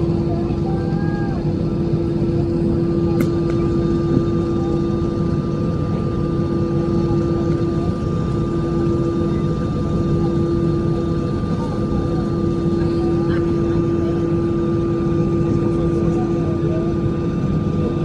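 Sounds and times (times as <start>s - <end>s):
airplane engine droning: 0.0s - 18.0s.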